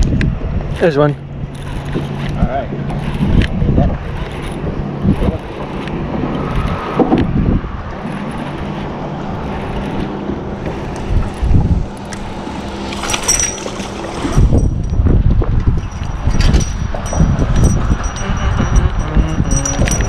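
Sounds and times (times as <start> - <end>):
water lapping at boat hull: 0.0 - 20.0
wind buffeting microphone: 0.0 - 20.0.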